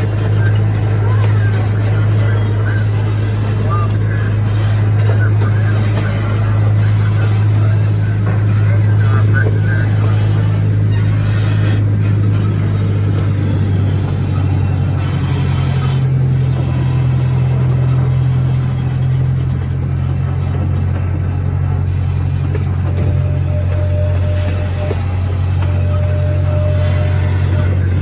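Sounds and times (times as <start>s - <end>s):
train engine droning: 0.0s - 28.0s.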